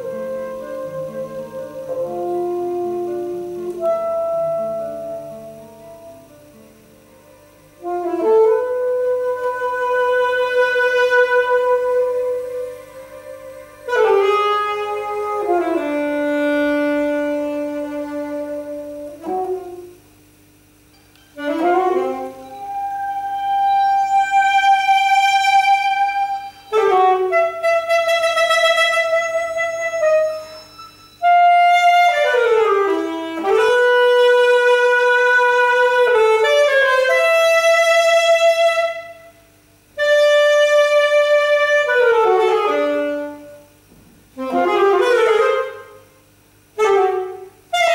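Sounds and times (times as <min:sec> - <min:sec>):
saxophone playing held notes: 0:00.0 - 0:47.9.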